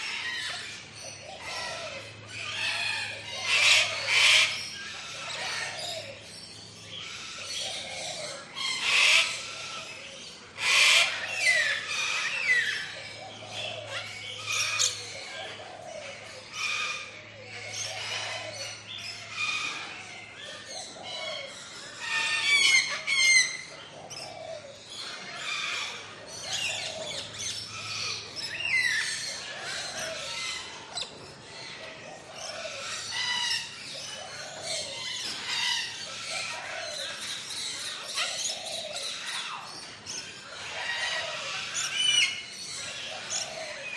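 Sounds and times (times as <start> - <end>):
rapid repeated bird calls: 0.0 - 43.9
tropical birds chirping: 0.0 - 43.9.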